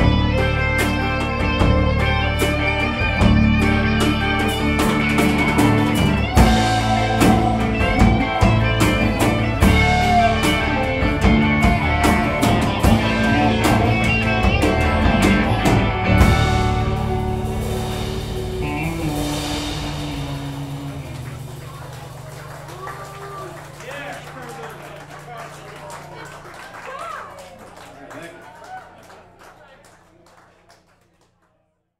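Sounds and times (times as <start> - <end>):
rock band playing live: 0.0 - 27.5.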